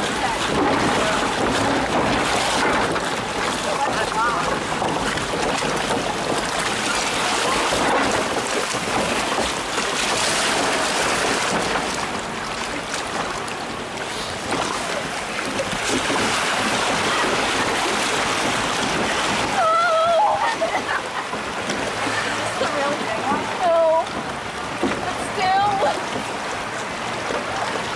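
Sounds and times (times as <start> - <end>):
water rushing and splashing: 0.0 - 27.9.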